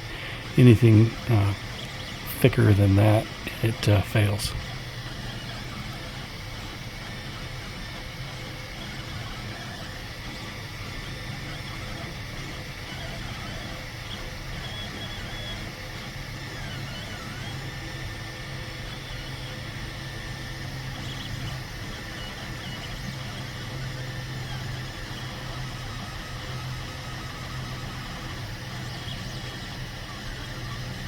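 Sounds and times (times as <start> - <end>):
printer stepper motors whining: 0.0 - 31.0.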